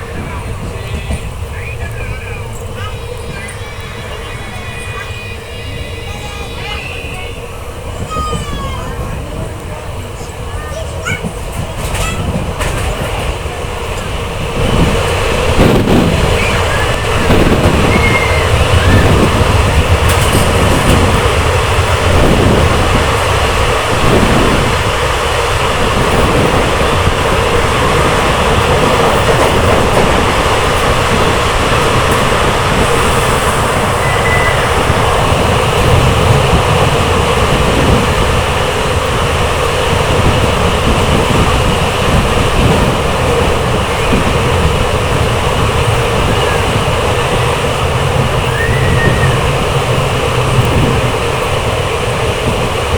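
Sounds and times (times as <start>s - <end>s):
train running on rails: 0.0s - 52.9s.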